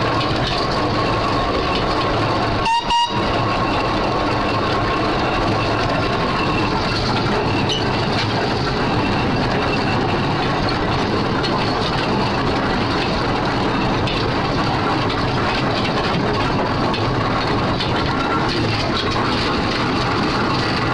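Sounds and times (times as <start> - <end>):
steam traction engine clattering: 0.0 - 20.9.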